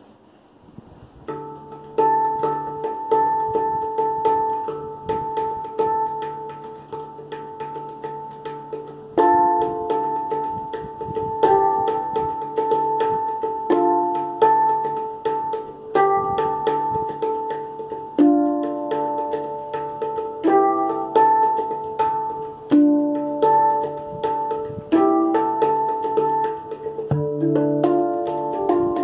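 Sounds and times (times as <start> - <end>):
handpan notes ringing: 1.2 - 29.0.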